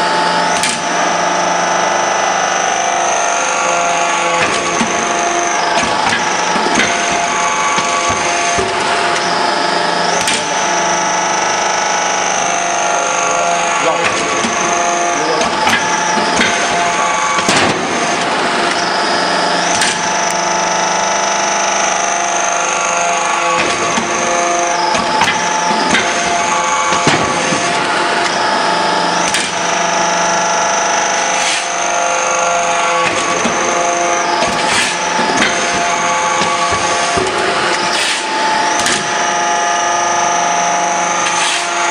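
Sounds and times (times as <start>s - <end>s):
high machine whine: 0.0s - 41.9s
hydraulic press machine hum: 0.0s - 41.9s.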